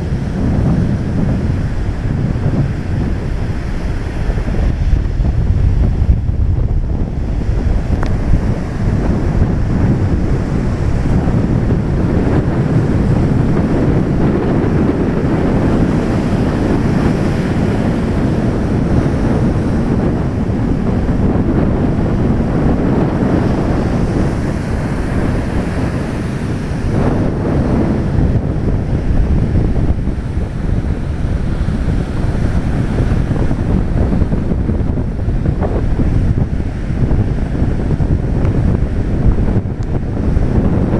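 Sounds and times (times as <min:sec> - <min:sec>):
sea waves breaking: 0:00.0 - 0:40.9
wind buffeting microphone: 0:00.0 - 0:40.9.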